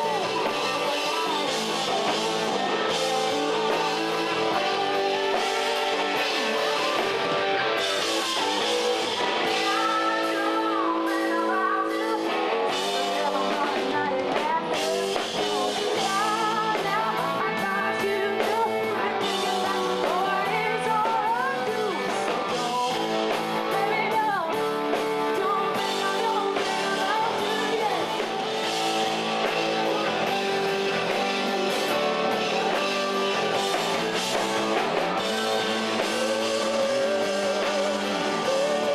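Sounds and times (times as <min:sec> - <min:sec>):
drums: 0:00.0 - 0:38.9
guitar: 0:00.0 - 0:38.9
person singing: 0:00.0 - 0:38.9
rock song: 0:00.0 - 0:38.9.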